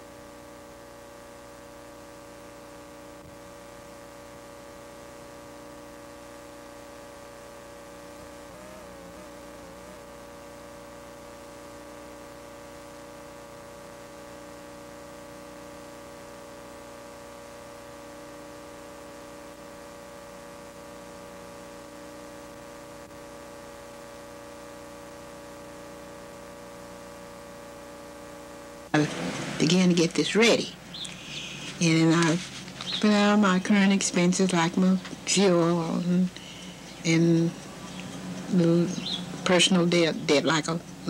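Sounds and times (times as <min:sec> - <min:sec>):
electrical mains hum: 0:00.0 - 0:41.0
tape hiss: 0:00.0 - 0:41.0.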